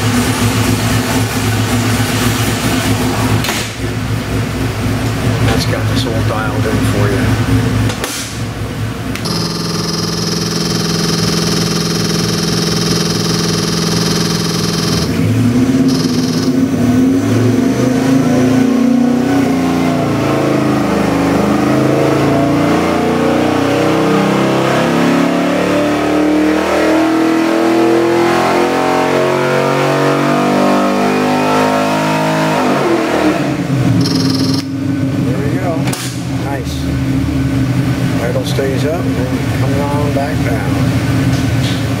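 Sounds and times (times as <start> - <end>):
engine revving on a dyno: 0.0 - 42.0.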